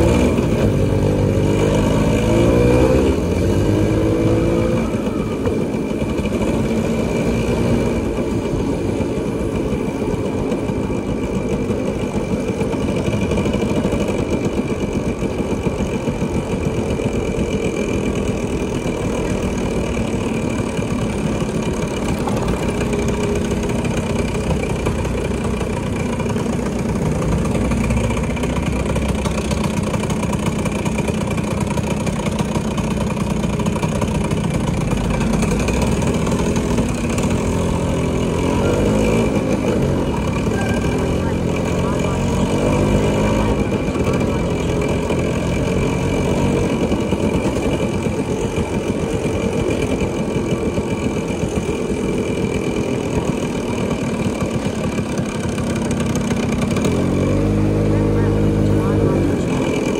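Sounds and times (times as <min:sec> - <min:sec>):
road and traffic noise: 0:00.0 - 0:59.9
vehicle engine running: 0:00.0 - 0:59.9.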